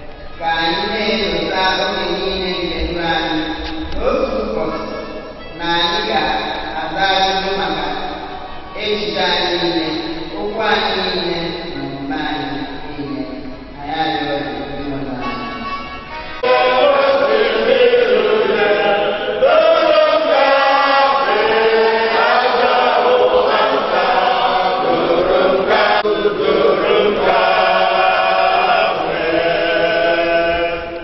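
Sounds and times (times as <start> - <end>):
congregation singing a hymn: 0.0 - 31.0.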